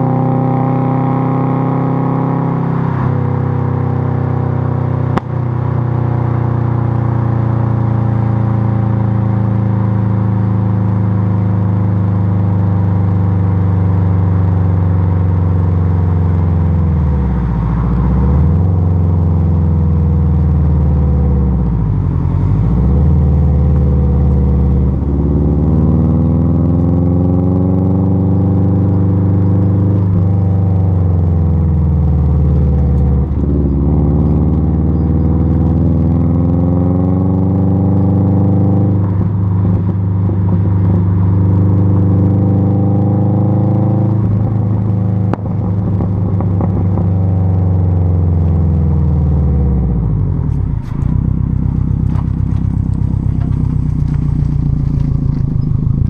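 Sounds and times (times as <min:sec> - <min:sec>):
car engine exhaust revving: 0:00.0 - 0:56.0.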